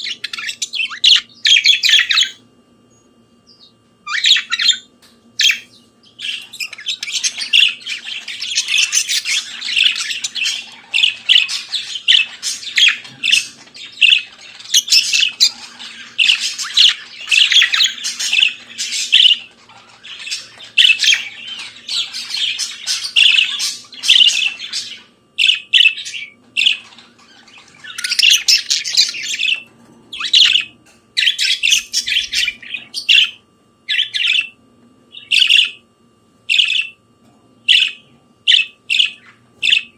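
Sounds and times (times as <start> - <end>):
budgerigars chattering and warbling: 0.0 - 2.4, 3.6 - 35.8, 36.5 - 37.0, 37.6 - 39.9.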